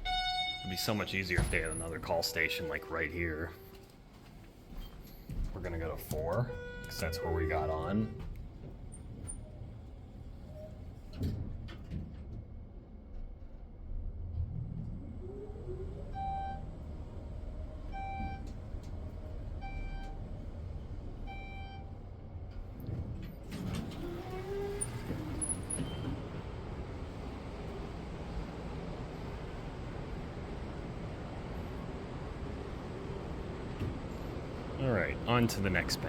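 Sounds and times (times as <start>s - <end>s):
elevator doors sliding open: 0.0s - 3.8s, 4.7s - 13.3s, 14.2s - 36.0s
elevator low rumble: 0.0s - 36.0s.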